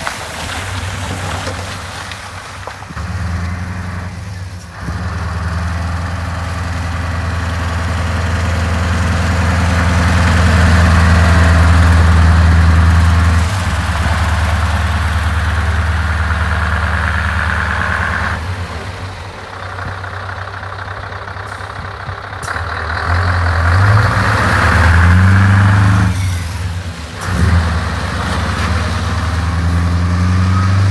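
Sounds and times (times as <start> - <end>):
truck diesel engine revving: 0.0 - 30.9.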